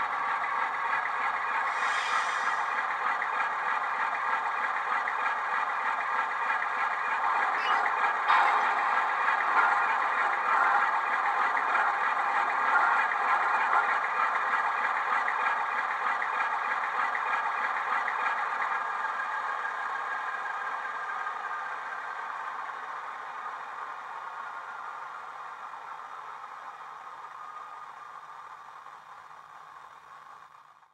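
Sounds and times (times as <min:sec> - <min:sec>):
diesel locomotive engine sound: 0:00.0 - 0:30.9.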